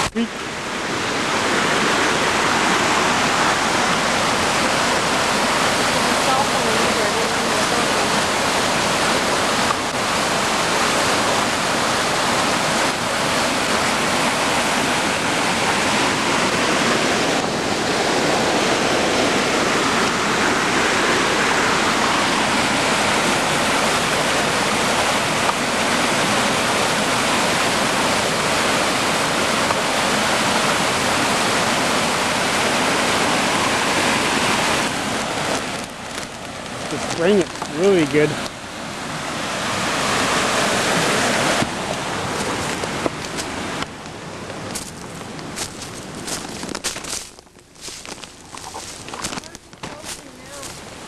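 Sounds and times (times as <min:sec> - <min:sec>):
river rapids rushing over rocks: 0:00.0 - 0:47.2.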